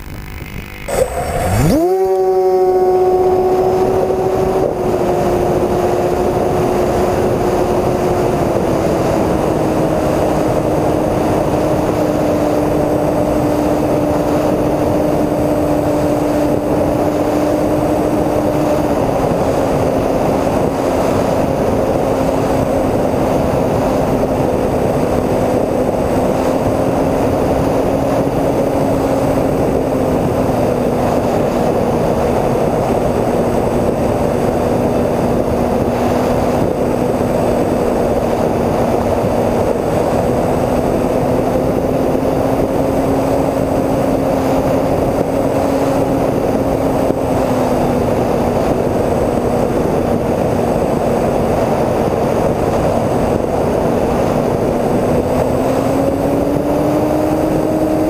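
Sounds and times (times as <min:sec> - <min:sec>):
propeller hum: 0:00.0 - 0:58.0
rushing wind: 0:00.0 - 0:58.0.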